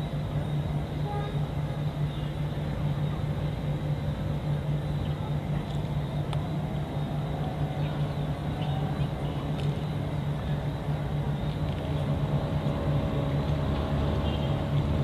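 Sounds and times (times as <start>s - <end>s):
engine running low hum: 0.0s - 15.0s
faint higher drone: 0.0s - 15.0s.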